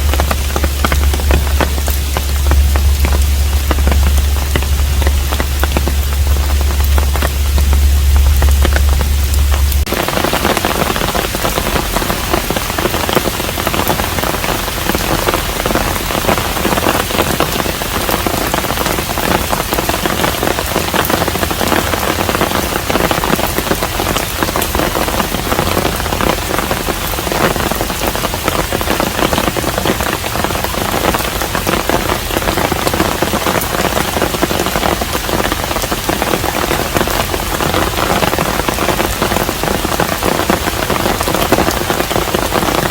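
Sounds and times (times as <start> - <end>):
low rumble: 0.0 - 42.9
rain falling on roof: 0.0 - 42.9.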